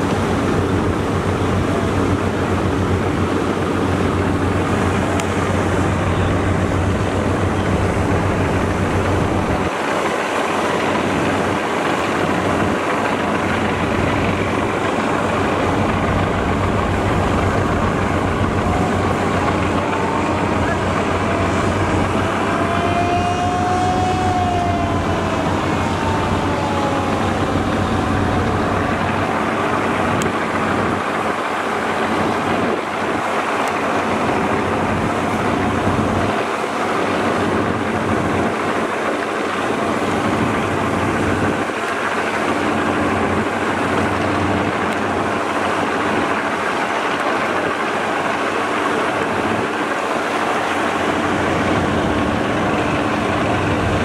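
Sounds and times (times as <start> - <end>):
boat diesel engines droning: 0.0 - 54.0
churning water and wake: 0.0 - 54.0.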